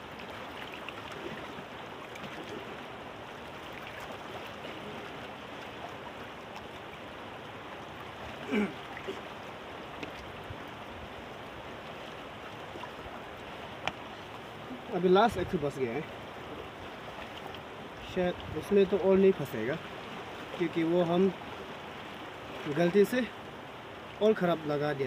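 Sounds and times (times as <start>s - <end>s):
fast-flowing river rushing: 0.0s - 25.0s.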